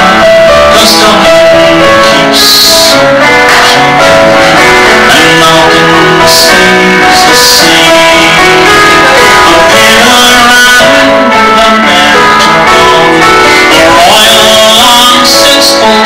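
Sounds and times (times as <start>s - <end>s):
guitar instrumental music: 0.0s - 16.0s.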